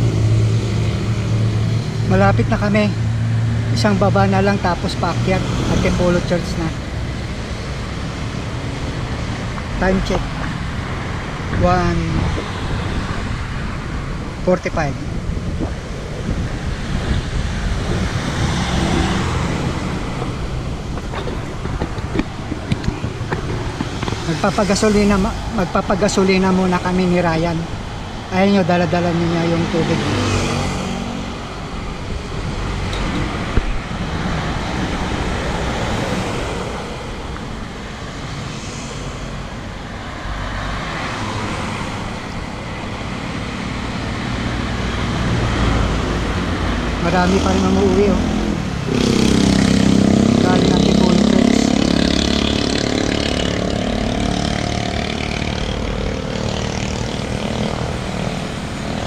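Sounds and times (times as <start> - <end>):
road and vehicle rumble: 0.0 - 59.0
wind rushing over microphone: 4.8 - 59.0.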